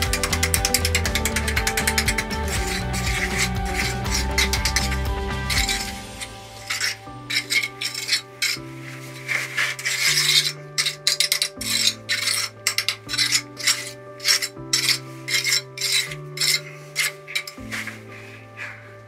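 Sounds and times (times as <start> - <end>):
background music: 0.0 - 19.0
trowel scraping wet concrete: 0.0 - 19.0.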